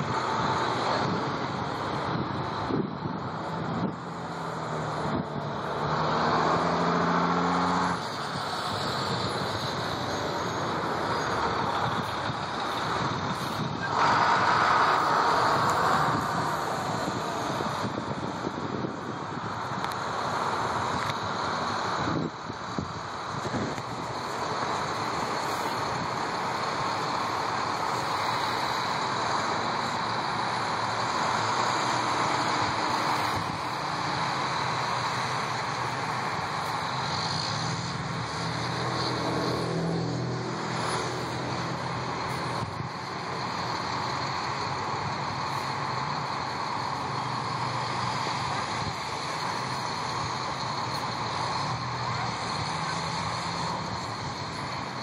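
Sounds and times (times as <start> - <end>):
buses engines and road noise: 0.0 - 55.0.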